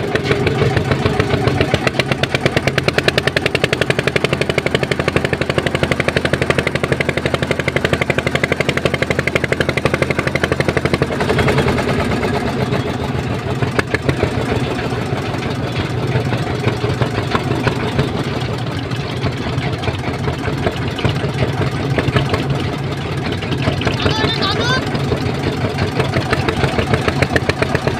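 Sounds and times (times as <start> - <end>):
boat engine thumping: 0.0 - 27.9.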